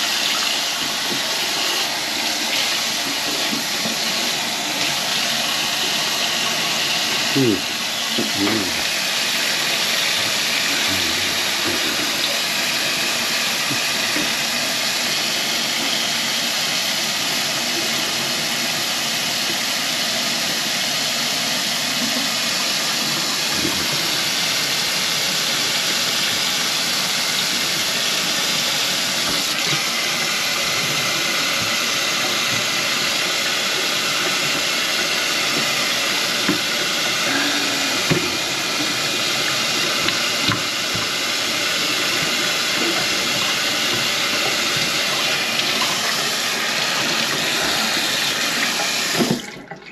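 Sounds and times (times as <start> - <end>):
faucet running into metal sink: 0.0 - 20.8, 25.8 - 49.9.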